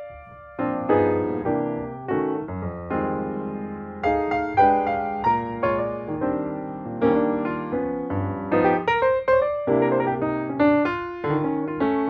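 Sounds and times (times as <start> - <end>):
piano playing chords: 0.0 - 12.0.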